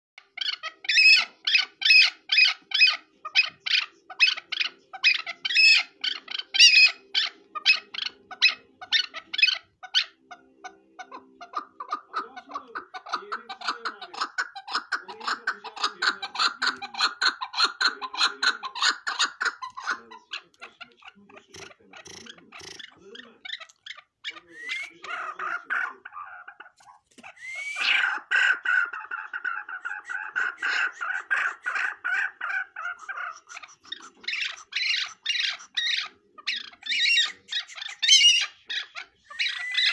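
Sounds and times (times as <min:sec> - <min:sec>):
partridge calling: 0:00.2 - 0:39.9.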